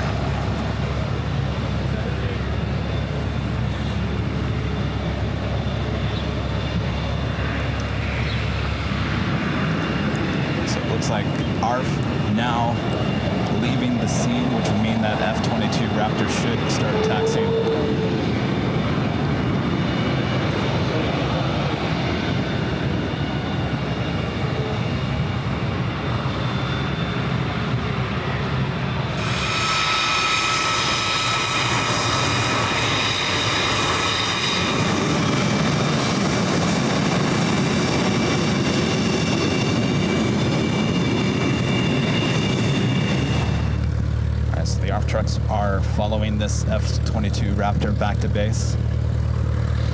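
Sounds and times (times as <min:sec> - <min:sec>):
high multi-tone jet whine: 0:00.0 - 0:49.9
jet engine rumble: 0:00.0 - 0:49.9.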